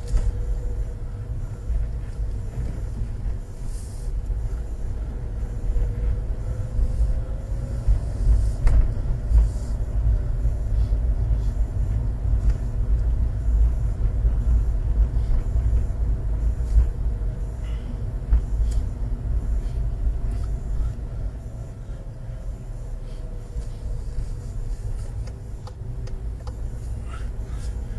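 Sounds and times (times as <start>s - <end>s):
engine and road rumble: 0.0s - 27.9s.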